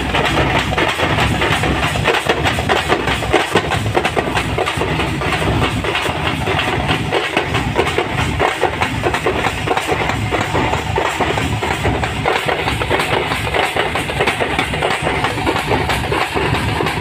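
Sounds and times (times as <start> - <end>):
drum troupe beating fast rhythm: 0.0 - 17.0.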